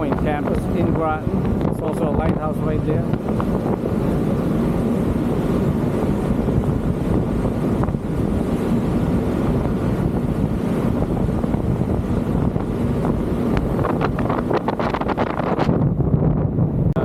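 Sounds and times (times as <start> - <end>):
boat engine drone: 0.0 - 17.0
wind buffeting microphone: 0.0 - 17.0.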